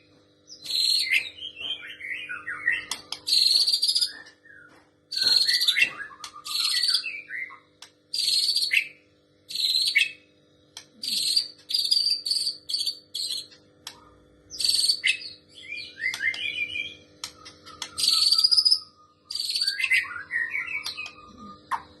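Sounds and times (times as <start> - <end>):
bird harsh buzzy calls: 0.6 - 22.0.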